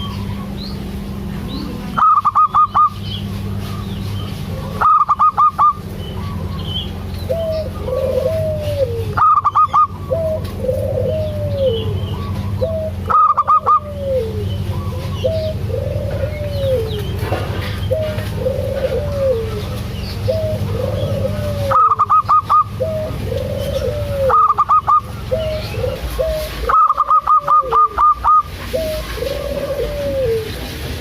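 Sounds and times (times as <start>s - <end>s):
dove clipped notes: 0.0s - 31.0s
dove cooing: 0.0s - 31.0s.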